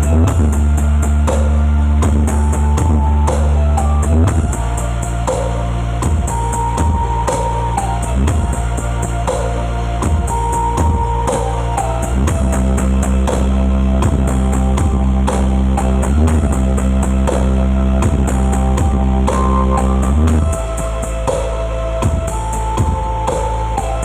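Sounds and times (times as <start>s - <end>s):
loud rock music: 0.0s - 24.0s.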